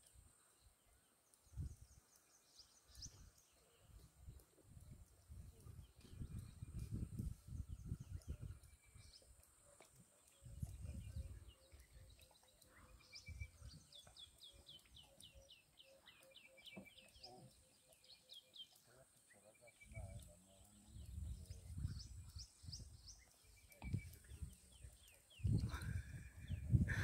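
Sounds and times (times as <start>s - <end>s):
faint birdsong: 0.0s - 27.0s.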